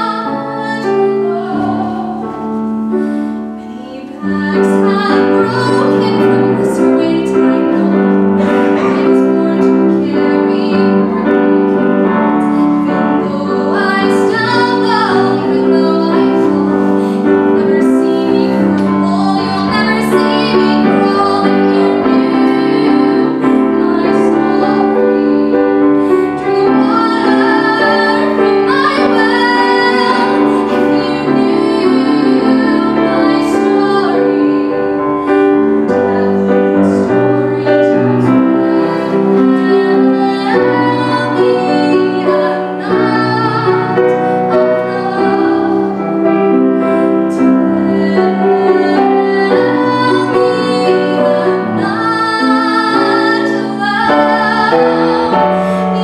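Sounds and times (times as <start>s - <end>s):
grand piano: 0.0s - 56.0s
woman singing with vibrato: 0.0s - 56.0s.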